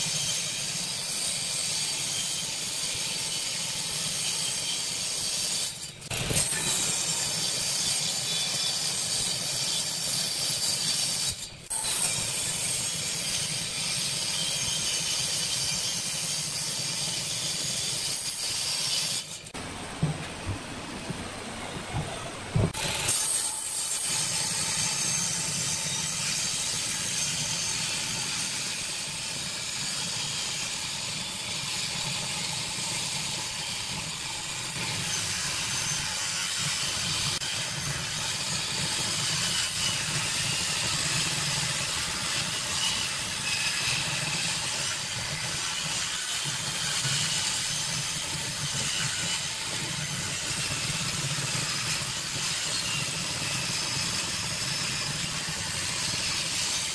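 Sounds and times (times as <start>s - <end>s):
table saw cutting wood: 0.0s - 56.9s.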